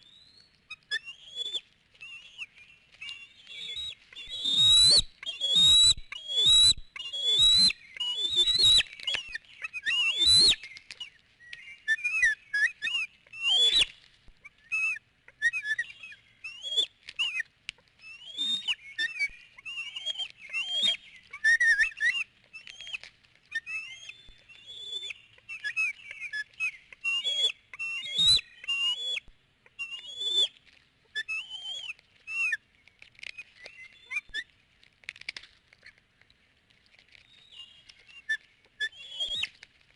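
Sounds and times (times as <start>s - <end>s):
eagles chirping whistles: 0.0s - 17.4s, 18.0s - 32.6s, 33.2s - 34.5s, 37.3s - 39.6s.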